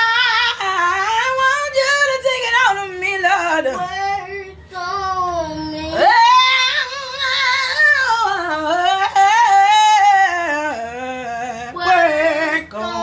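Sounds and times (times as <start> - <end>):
woman singing gospel: 0.0 - 13.0.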